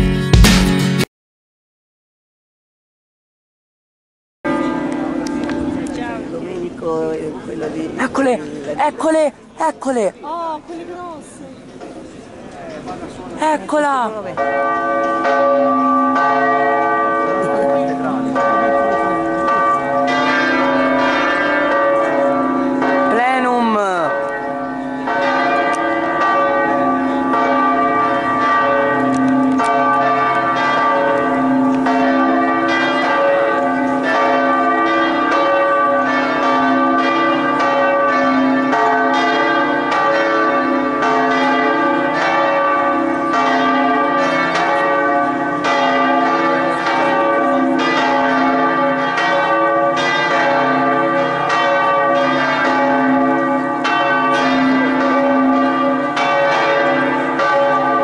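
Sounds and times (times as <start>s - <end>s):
church bells pealing: 4.5s - 58.0s.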